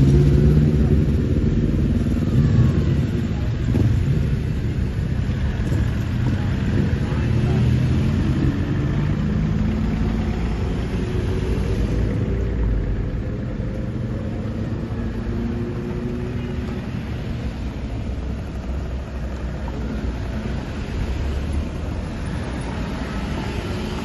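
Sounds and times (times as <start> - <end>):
car engines rumbling: 0.0 - 24.0
cars driving slowly past: 0.0 - 24.0.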